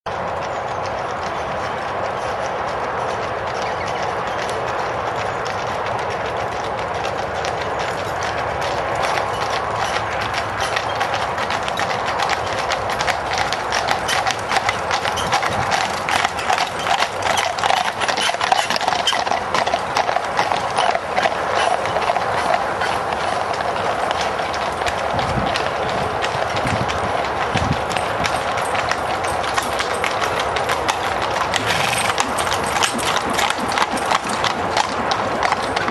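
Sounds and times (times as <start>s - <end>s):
hooves clip-clopping on tarmac: 0.1s - 35.9s.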